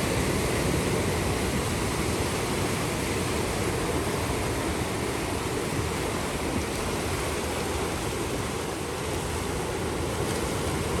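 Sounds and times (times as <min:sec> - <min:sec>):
ocean waves breaking on beach: 0:00.0 - 0:11.0.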